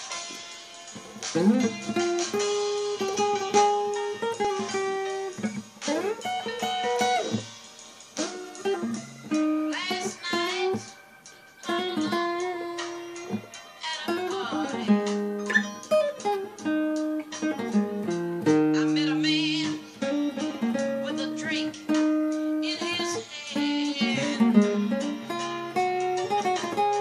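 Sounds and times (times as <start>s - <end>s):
solo guitar picking: 1.0s - 7.5s, 8.2s - 10.8s, 11.6s - 13.5s, 14.1s - 27.0s.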